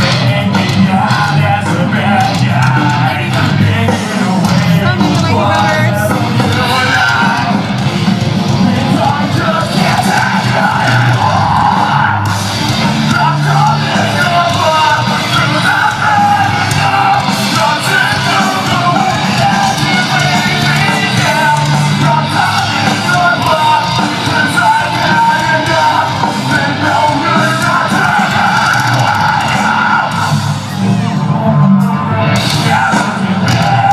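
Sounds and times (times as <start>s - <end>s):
live heavy rock band: 0.0s - 33.9s
shouted lead vocals: 0.0s - 33.9s.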